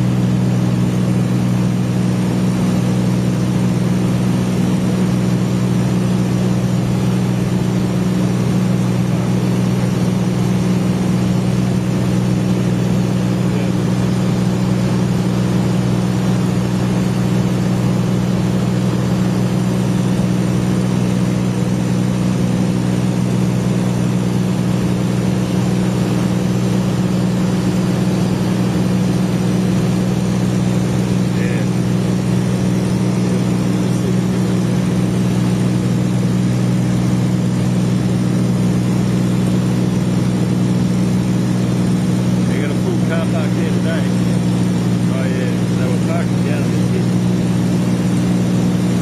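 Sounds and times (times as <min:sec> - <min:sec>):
aircraft engine drone in cabin: 0:00.0 - 0:49.0.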